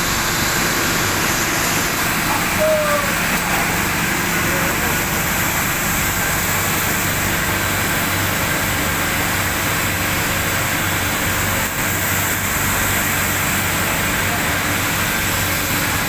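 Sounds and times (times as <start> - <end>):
furnace rushing with low hum: 0.0 - 16.0.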